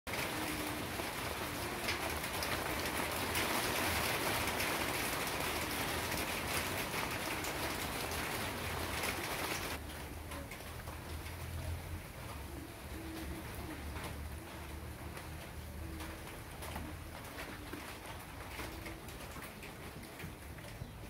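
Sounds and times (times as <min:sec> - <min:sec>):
steady rain falling: 0:00.1 - 0:21.0.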